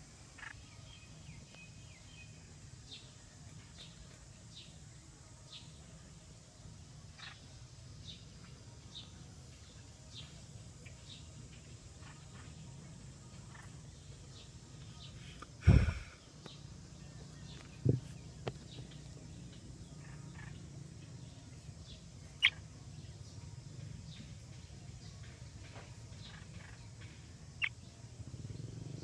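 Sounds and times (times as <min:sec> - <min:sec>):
small birds peeping: 0:00.0 - 0:29.0
steady low hum: 0:00.0 - 0:29.0.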